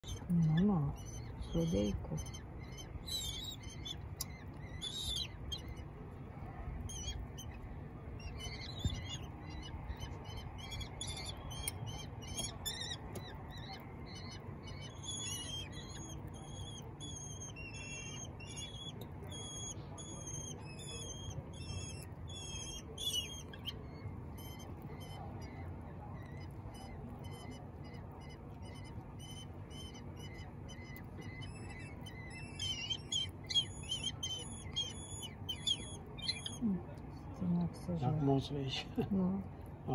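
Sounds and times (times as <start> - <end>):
bird chicks begging calls: 0.0 - 37.0.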